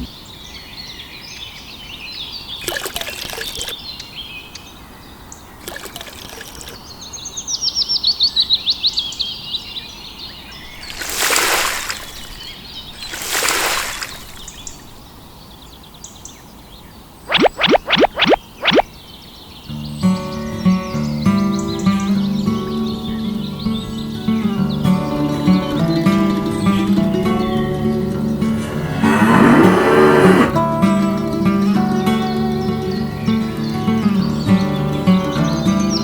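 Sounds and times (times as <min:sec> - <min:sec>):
birds chirping: 0:00.0 - 0:07.4, 0:09.8 - 0:15.4, 0:17.3 - 0:36.0.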